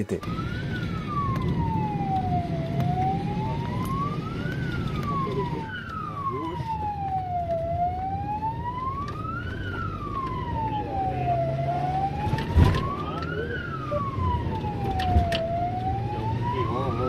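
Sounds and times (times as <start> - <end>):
engine and road rumble: 0.0 - 17.0
emergency siren wailing: 0.1 - 17.0.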